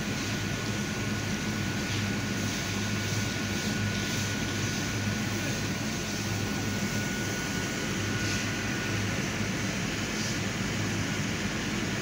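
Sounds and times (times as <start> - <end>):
machine engine and pump drone: 0.0 - 12.0.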